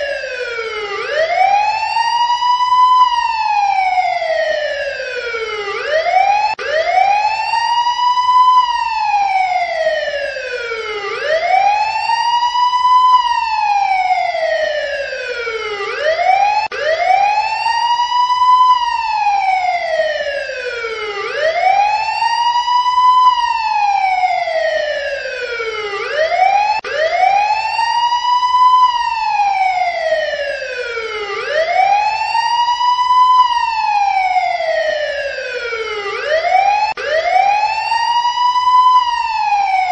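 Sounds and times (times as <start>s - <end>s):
emergency siren wailing: 0.0s - 39.9s.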